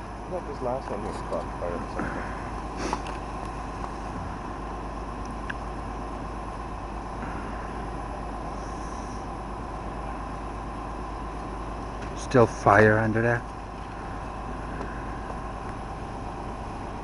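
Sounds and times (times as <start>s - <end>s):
faint steady tone: 0.0s - 17.0s
low engine-like rumble: 0.0s - 17.0s.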